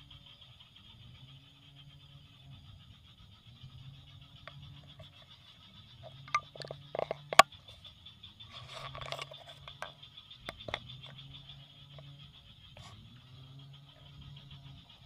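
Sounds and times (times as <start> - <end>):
steady high-pitched hum: 0.0 - 15.0.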